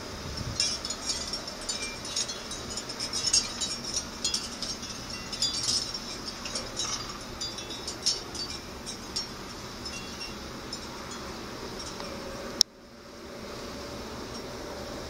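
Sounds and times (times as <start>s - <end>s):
wind chimes tinkling: 0.3s - 12.5s.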